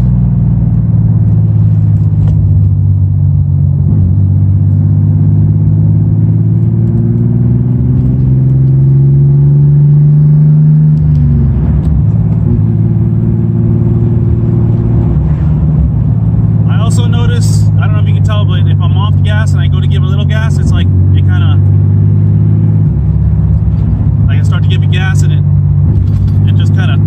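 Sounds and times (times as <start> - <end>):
car engine drone from inside: 0.0 - 27.0.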